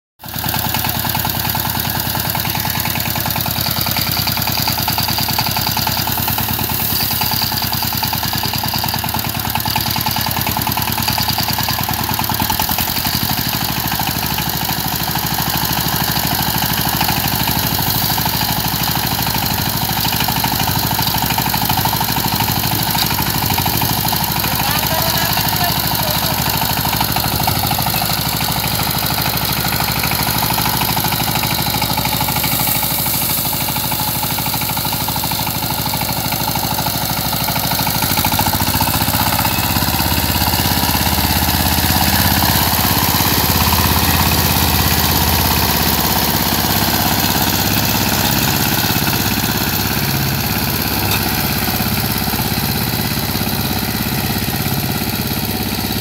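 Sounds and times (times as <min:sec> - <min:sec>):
diesel power tiller engine running: 0:00.2 - 0:56.0.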